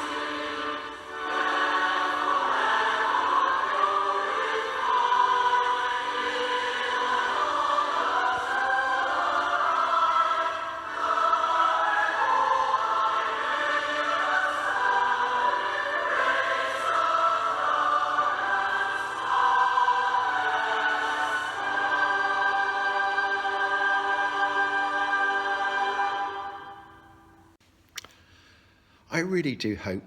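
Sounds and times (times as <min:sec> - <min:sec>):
choir singing: 0:00.0 - 0:27.4.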